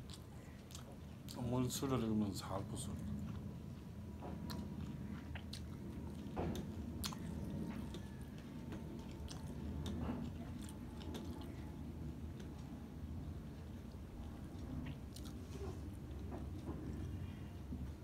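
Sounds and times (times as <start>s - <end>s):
chewing with wet mouth clicks: 0.0s - 1.9s, 2.8s - 18.0s.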